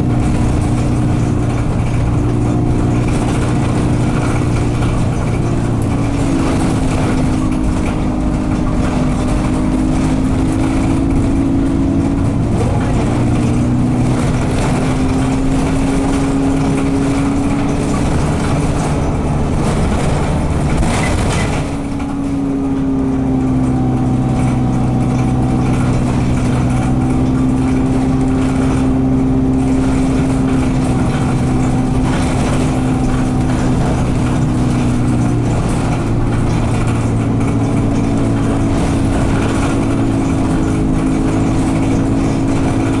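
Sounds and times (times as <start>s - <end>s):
bus diesel engine running: 0.0s - 43.0s.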